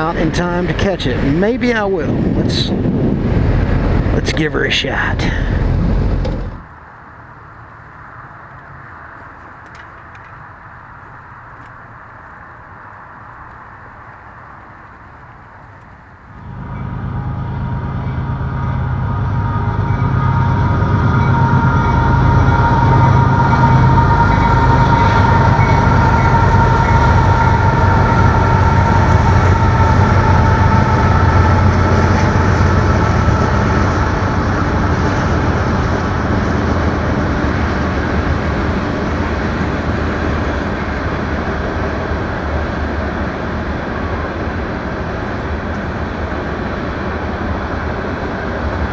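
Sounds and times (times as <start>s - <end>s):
diesel locomotive rumble: 0.0s - 48.9s
high whine of passing train: 0.0s - 48.9s.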